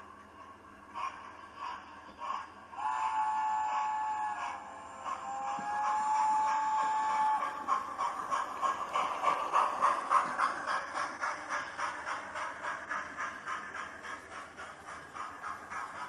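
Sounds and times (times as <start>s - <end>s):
steam locomotive chuffing: 0.0s - 16.0s.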